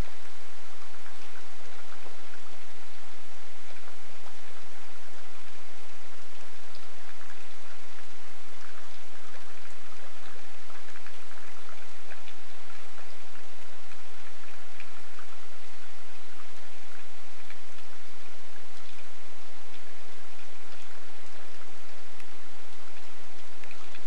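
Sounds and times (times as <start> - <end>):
steady rain falling: 0.0 - 24.0
raindrop ticks: 3.6 - 24.0.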